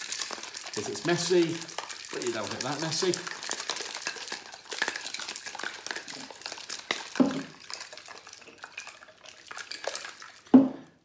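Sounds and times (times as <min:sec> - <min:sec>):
cocktail shaker rattling: 0:00.0 - 0:10.5.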